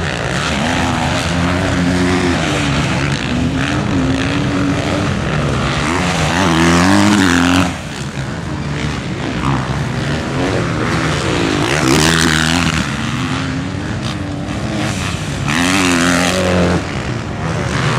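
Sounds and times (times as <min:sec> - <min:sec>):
dirt bike engines revving: 0:00.0 - 0:17.9.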